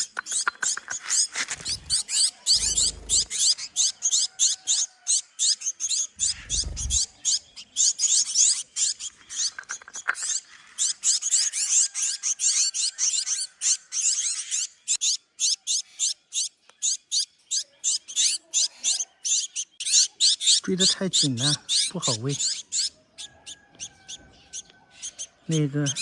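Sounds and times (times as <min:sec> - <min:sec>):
young birds cheeping: 0:00.0 - 0:26.0.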